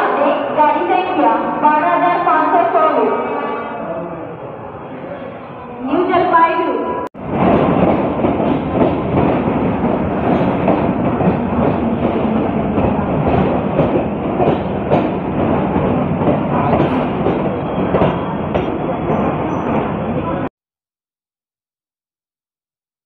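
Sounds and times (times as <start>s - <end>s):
train noise: 0.0s - 20.5s.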